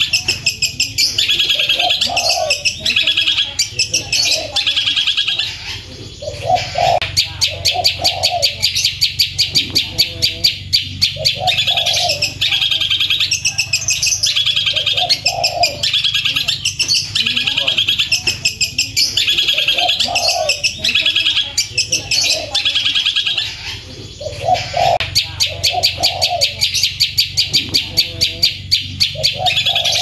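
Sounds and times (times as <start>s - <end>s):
bird singing loudly: 0.0s - 30.0s.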